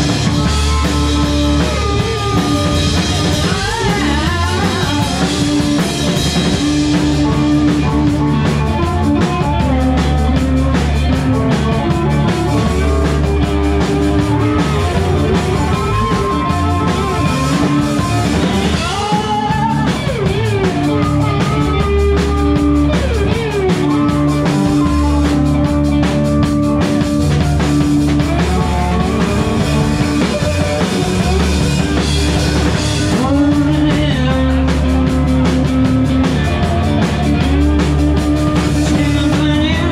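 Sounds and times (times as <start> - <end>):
drum kit: 0.0 - 39.9
electric guitars: 0.0 - 39.9
harmonica bending notes: 0.0 - 39.9.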